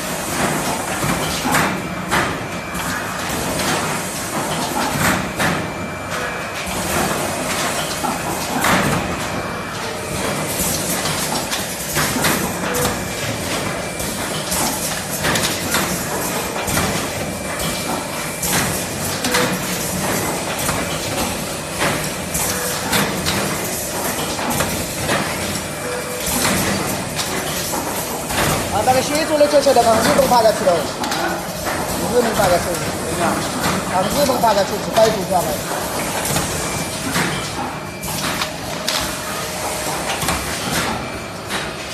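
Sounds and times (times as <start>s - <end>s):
machine clacks and knocks: 0.0s - 5.8s, 6.6s - 39.1s
machine mechanical noise: 0.0s - 41.9s.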